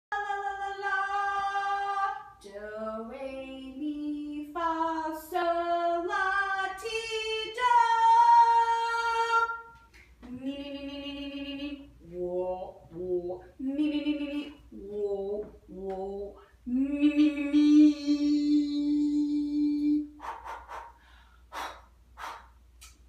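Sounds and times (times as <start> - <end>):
woman singing unaccompanied: 0.1 - 20.2.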